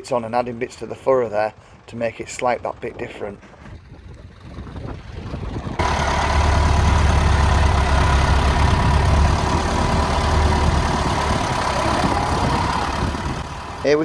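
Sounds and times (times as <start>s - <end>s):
tractor engine rumbling: 0.0s - 14.0s.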